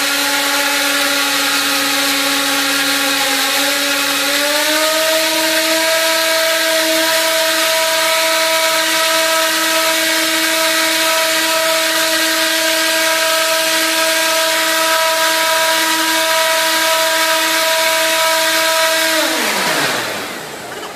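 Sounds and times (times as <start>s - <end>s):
turbine whine: 0.0s - 20.9s.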